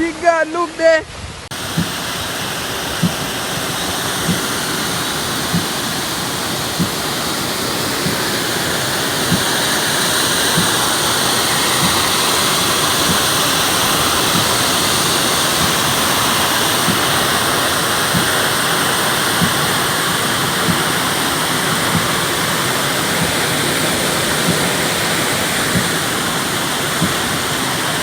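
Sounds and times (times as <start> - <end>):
floodwater gushing: 0.0 - 28.0.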